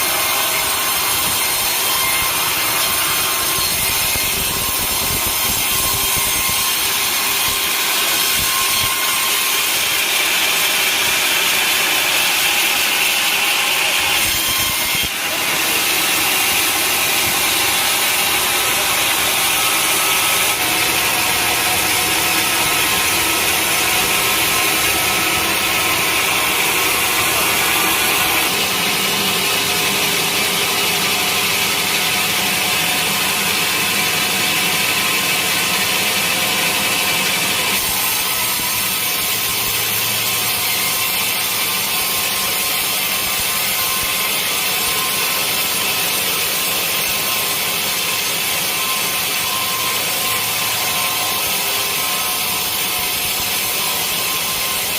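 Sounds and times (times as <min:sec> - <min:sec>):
saw grinding through log: 0:00.0 - 0:54.9.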